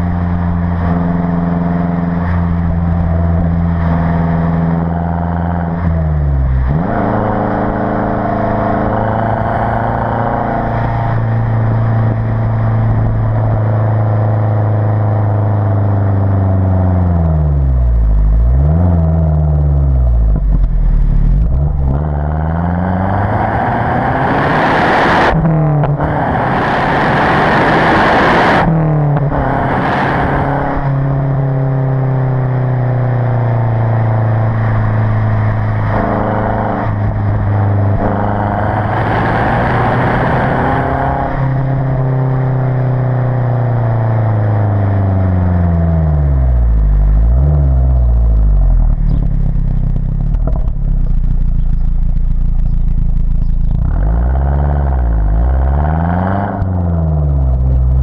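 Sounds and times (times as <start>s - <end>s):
car exhaust engine note: 0.0s - 58.0s.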